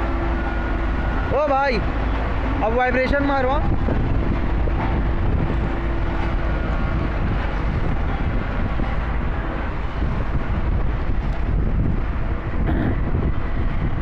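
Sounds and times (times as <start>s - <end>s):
road roller low rumble: 0.0s - 14.0s.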